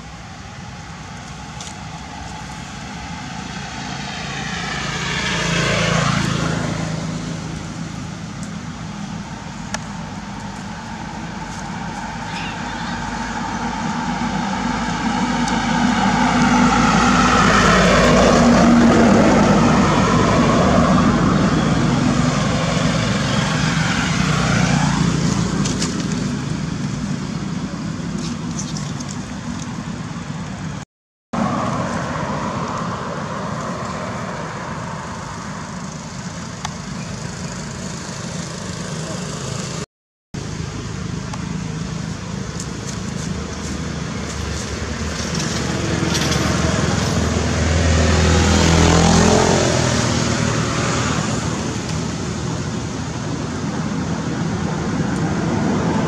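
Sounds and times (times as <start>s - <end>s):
vehicles passing by: 0.0s - 30.8s, 31.4s - 56.0s.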